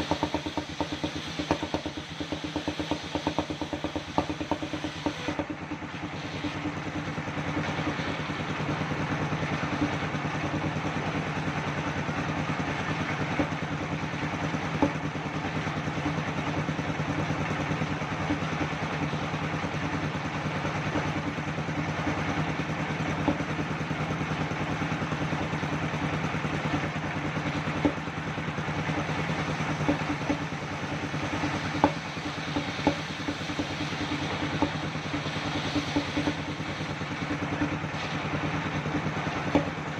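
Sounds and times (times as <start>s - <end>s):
engine hum: 0.0s - 39.9s
spinning saw whirring: 0.0s - 39.9s.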